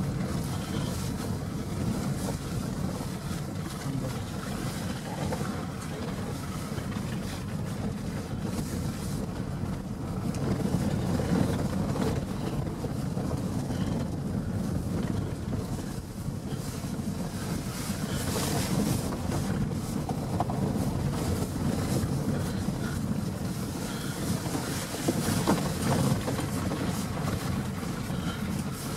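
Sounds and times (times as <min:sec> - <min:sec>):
car engine and tyres rumbling: 0:00.0 - 0:28.9.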